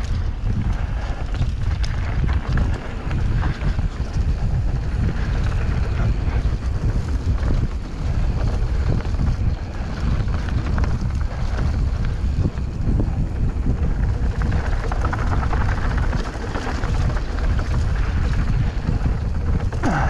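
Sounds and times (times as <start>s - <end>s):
bike clicks and rattles: 0.0s - 20.0s
bike tyres rumbling on dirt: 0.0s - 20.0s
wind on microphone: 0.0s - 20.0s.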